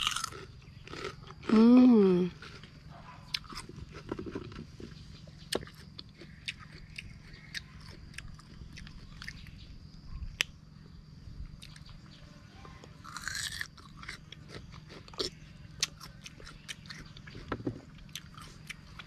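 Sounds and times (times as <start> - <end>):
person chewing: 0.0 - 9.5, 13.0 - 19.0
faint low hum: 0.0 - 19.0.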